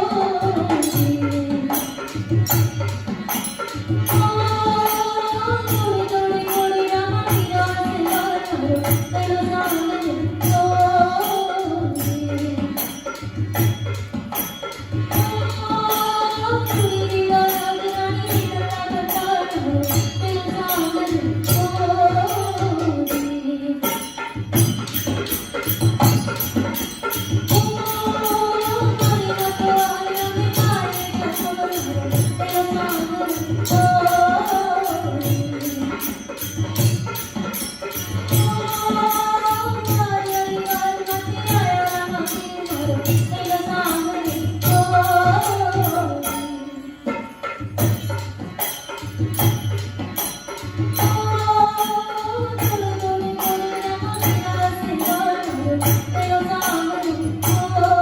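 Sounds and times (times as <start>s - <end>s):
jingling percussion: 0.0s - 58.0s.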